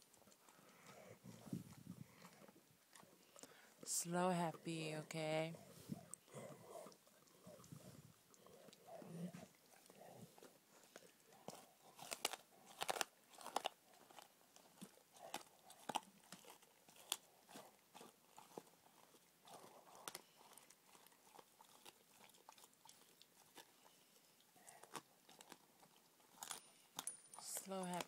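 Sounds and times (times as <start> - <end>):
dog crunching bones: 0.0 - 3.9, 4.6 - 28.0.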